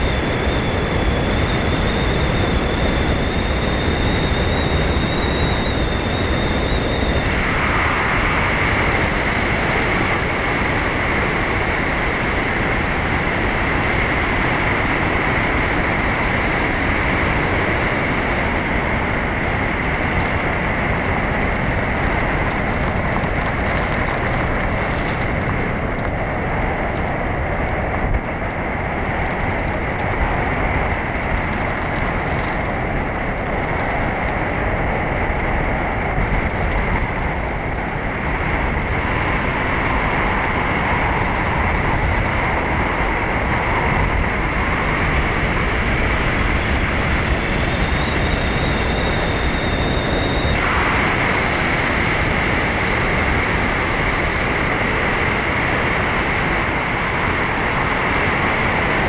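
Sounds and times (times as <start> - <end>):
tyres on the road: 0.0 - 59.0.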